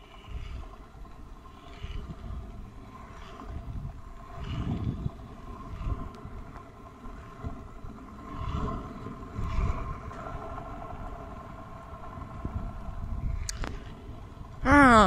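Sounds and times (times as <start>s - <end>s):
scooter wheels rolling on asphalt: 0.0s - 14.7s
wind gusting on microphone: 0.0s - 15.0s.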